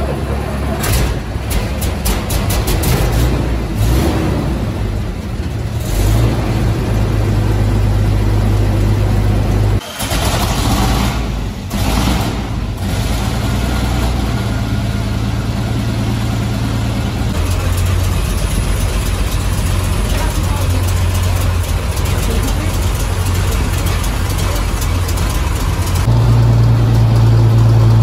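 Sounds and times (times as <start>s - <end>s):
truck engine droning: 0.0s - 28.0s.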